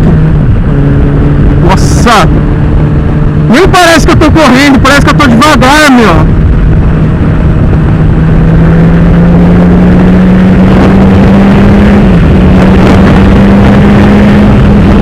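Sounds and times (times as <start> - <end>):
motorcycle engine running hard: 0.0 - 15.0
wind noise on microphone: 0.0 - 15.0.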